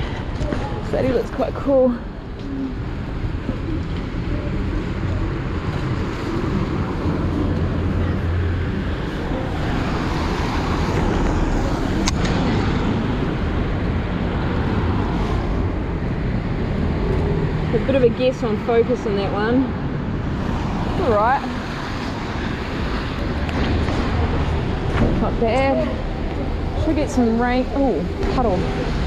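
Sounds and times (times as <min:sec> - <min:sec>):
vehicle engine rumble: 0:00.0 - 0:29.0.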